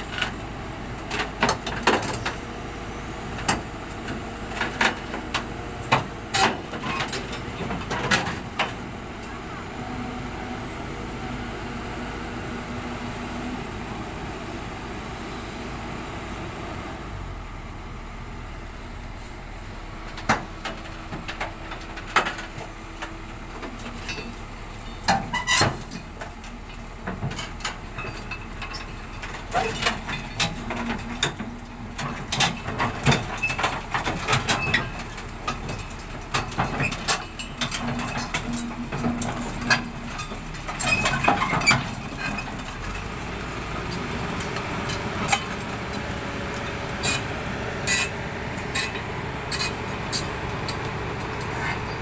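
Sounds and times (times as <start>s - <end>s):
excavator running: 0.0s - 52.0s.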